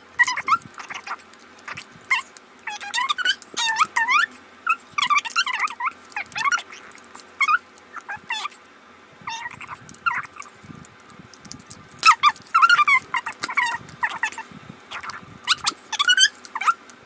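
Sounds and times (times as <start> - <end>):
animal squeaky calls: 0.2 - 8.6, 9.3 - 10.6, 12.0 - 16.8.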